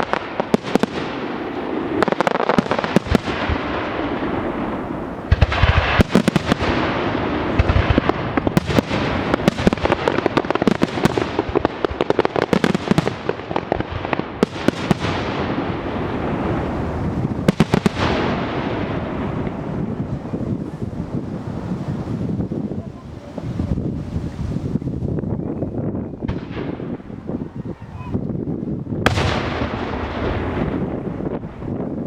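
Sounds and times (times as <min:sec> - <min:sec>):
fireworks bangs and crackling: 0:00.0 - 0:32.0
heavy low firework booms: 0:00.0 - 0:32.0.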